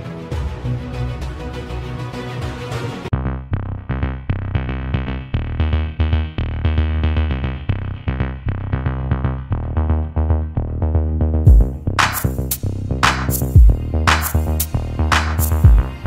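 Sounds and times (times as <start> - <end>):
electronic music with heavy bass: 0.0 - 16.0.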